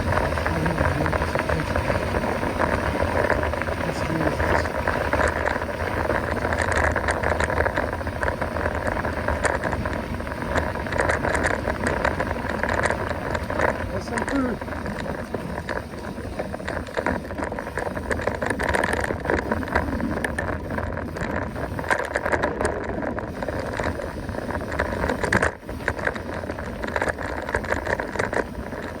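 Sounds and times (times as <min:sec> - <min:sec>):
bike clicks and rattles: 0:00.0 - 0:29.0
bike tyre noise on rough ground: 0:00.0 - 0:29.0.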